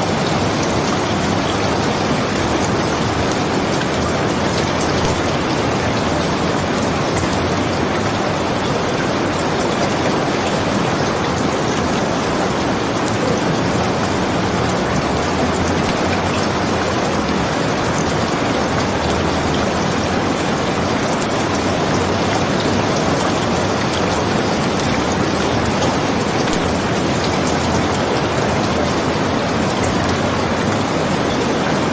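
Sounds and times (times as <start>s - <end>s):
heavy rain patter: 0.0s - 31.9s.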